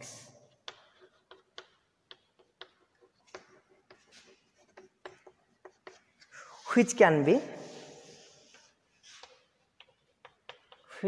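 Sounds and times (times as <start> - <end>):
chalk tapping on blackboard: 0.5 - 6.3, 7.6 - 11.0.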